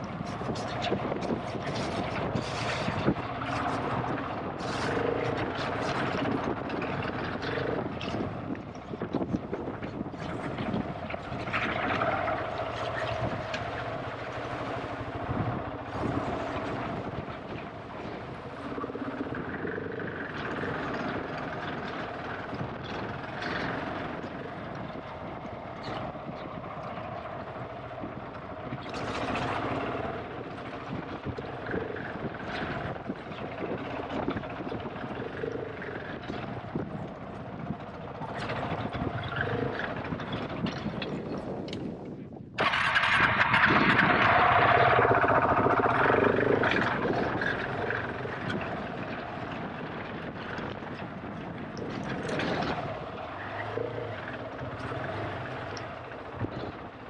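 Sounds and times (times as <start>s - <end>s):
motorcycle engine off-road: 0.0s - 57.0s.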